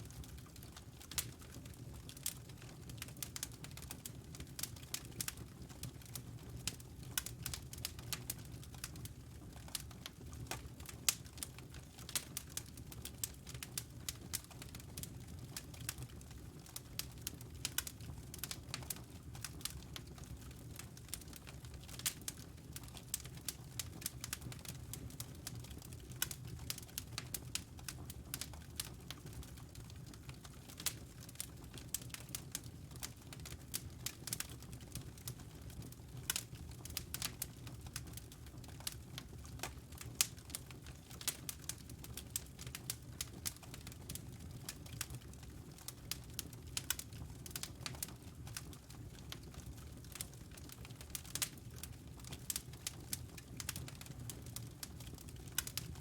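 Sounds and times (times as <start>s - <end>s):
low rumble of burning: 0.0s - 56.0s
fire crackling: 0.1s - 56.0s.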